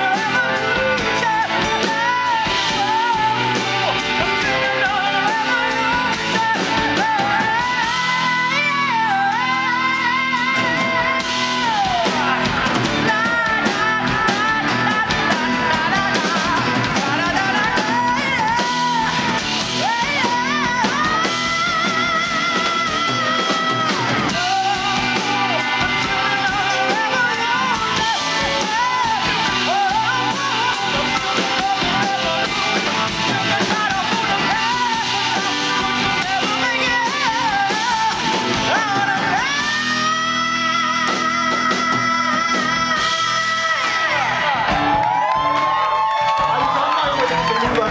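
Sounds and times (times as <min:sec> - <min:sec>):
electric guitar: 0:00.0 - 0:47.9
rock band playing: 0:00.0 - 0:47.9
singer holding long notes: 0:00.0 - 0:47.9.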